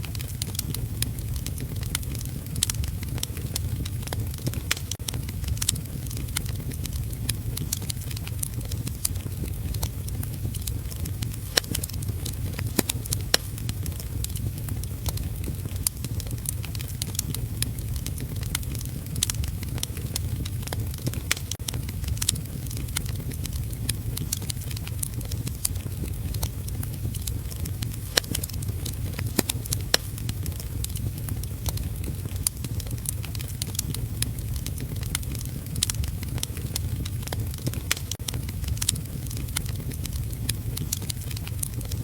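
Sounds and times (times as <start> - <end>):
low rumble: 0.0 - 42.0
wood fire crackling: 0.0 - 42.0.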